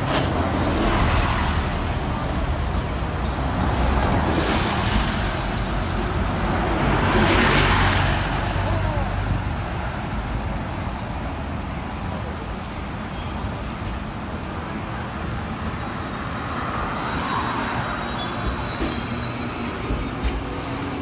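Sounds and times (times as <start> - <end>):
vehicles passing with low rumble: 0.0 - 18.1.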